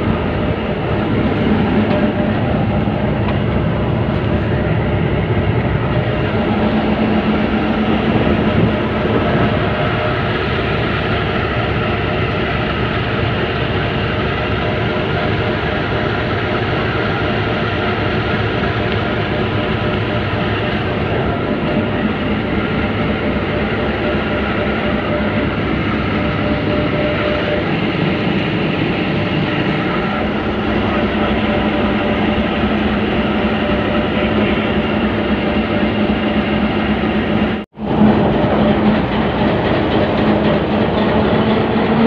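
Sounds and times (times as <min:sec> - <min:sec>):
locomotive engine idling: 0:00.0 - 0:42.0.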